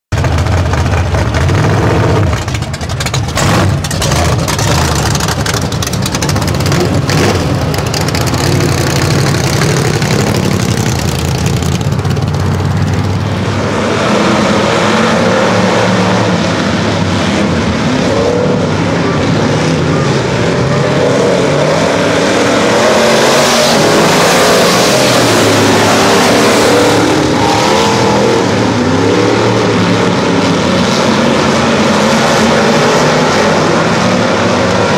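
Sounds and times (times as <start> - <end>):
race car engines: 0.1 - 34.9
race cars passing by: 0.2 - 34.9.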